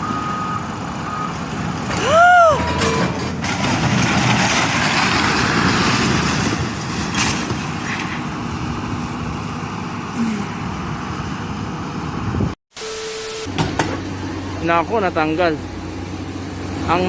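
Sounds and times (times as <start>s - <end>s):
heavy equipment engine rumbling: 0.0s - 12.6s, 13.5s - 17.0s.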